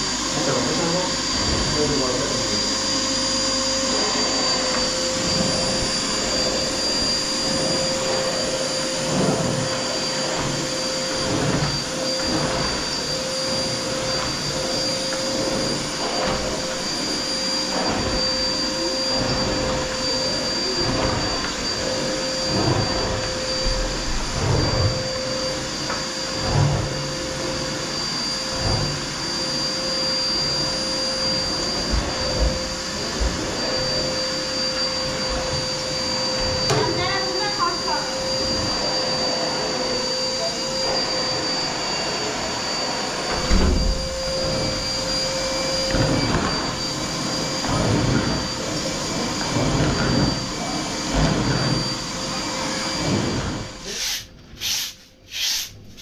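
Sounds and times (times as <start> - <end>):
vacuum cleaner whining: 0.0 - 56.0.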